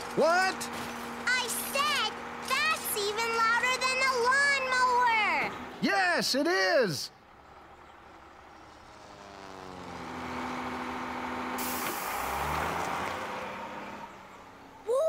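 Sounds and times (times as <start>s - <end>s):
truck engine passing by: 0.0s - 6.2s, 6.8s - 15.0s.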